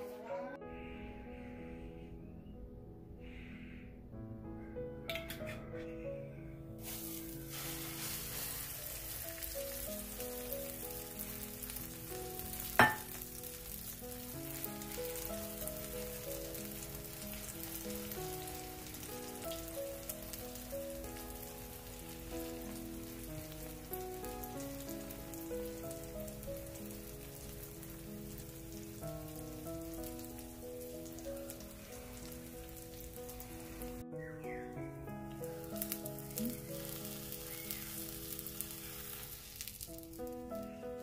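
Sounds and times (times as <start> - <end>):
slow background music: 0.0 - 41.0
egg mixture sizzling in oil: 6.8 - 34.0, 35.3 - 41.0.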